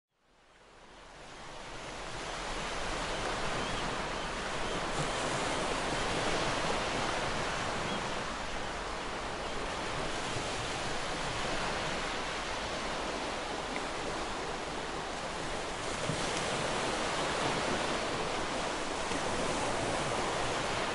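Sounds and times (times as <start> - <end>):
waves washing onto sand: 0.7 - 20.9.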